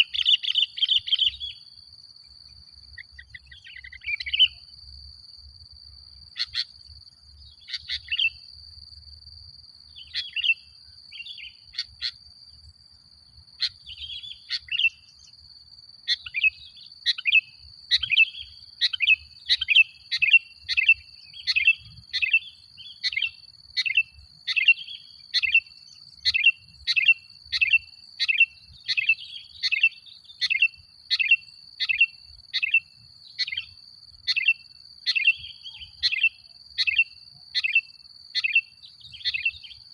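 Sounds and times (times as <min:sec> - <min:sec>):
bird chirping phrases: 0:00.0 - 0:08.8, 0:09.8 - 0:39.9.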